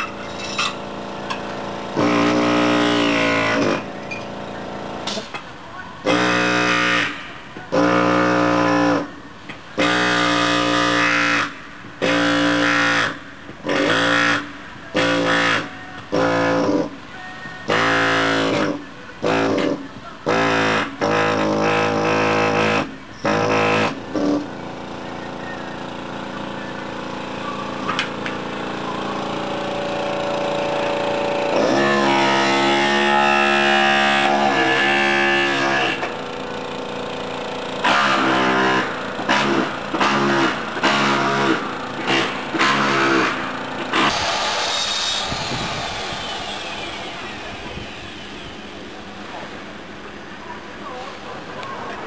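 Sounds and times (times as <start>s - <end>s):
pneumatic air hammer chipping tiles: 0.0s - 9.1s, 9.8s - 17.0s, 17.7s - 25.1s, 25.8s - 49.0s.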